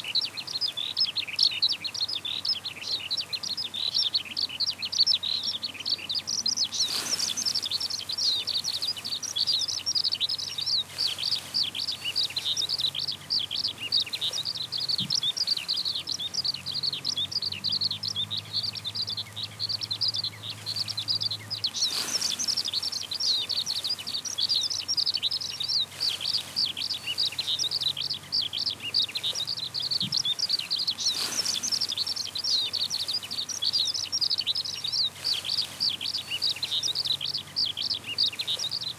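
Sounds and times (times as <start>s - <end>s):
skylark singing: 0.0s - 38.9s.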